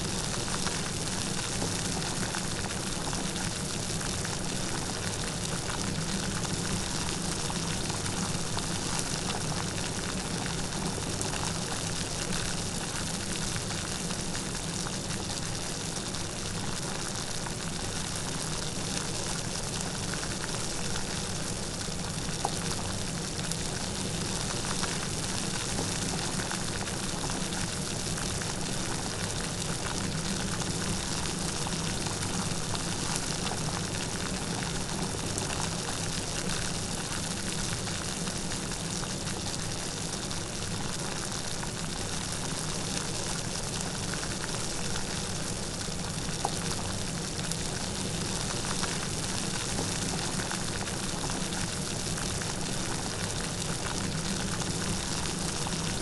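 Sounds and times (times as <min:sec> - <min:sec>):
light rain pattering: 0:00.0 - 0:56.0.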